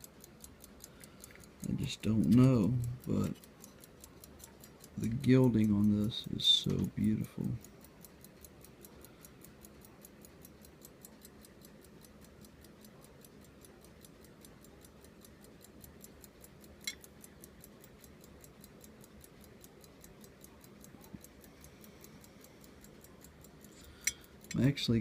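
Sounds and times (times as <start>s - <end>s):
pocket watch ticking: 0.0s - 25.0s.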